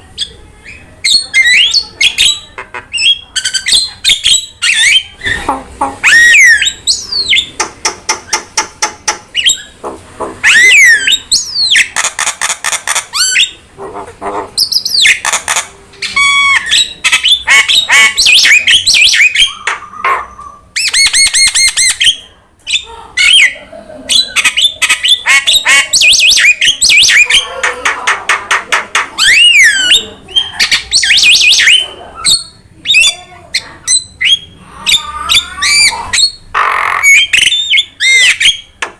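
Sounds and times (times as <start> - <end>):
starling song with squawks and trills: 0.0 - 38.9.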